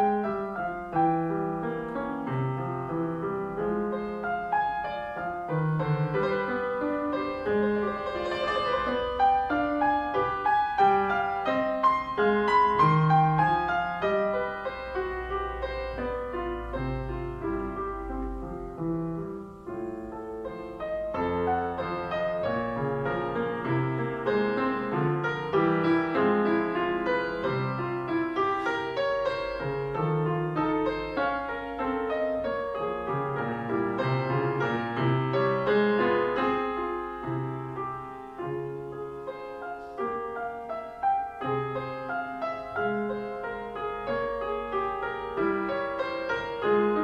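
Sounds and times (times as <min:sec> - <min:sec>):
grand piano playing: 0:00.0 - 0:47.0.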